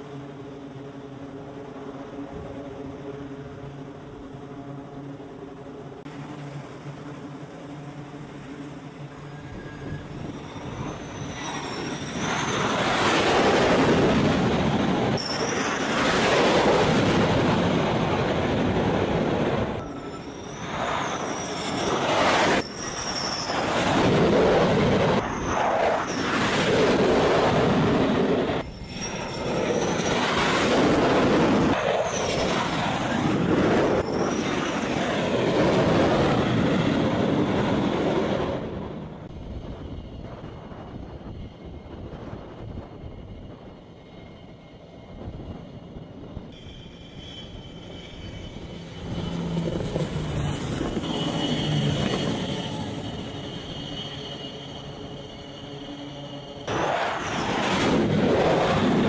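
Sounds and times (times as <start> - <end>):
jet engines roaring with high whine: 0.0 - 59.0.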